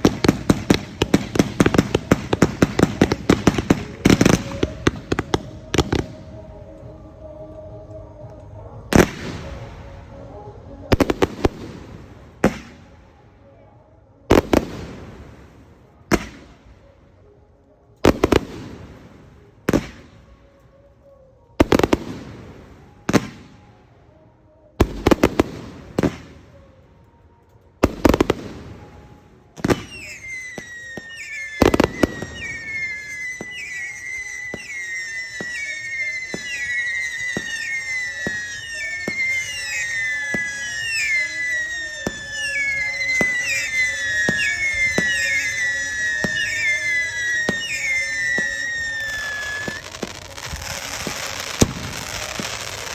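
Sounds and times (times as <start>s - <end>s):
whistling fireworks: 0.0s - 52.9s.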